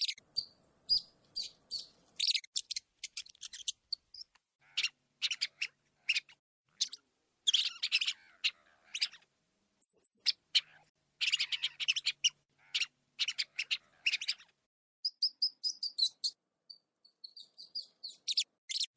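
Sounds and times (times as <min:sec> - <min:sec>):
rats squeaking: 0:00.0 - 0:09.2, 0:09.8 - 0:18.9.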